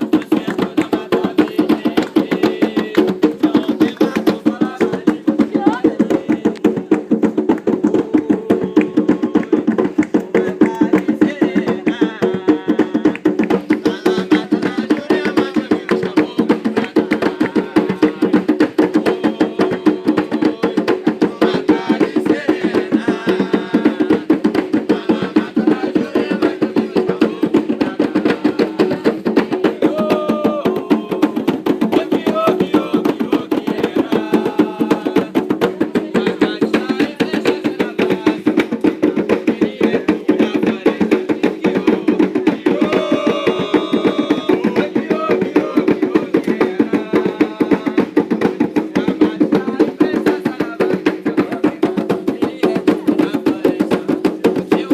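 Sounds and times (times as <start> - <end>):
fast hand drumming: 0.0 - 54.9.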